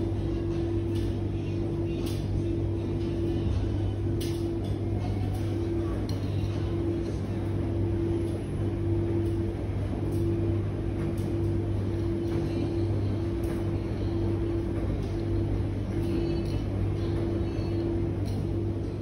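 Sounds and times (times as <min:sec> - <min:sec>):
mid-pitched whine: 0:00.0 - 0:19.0
washing machine motor hum: 0:00.0 - 0:19.0.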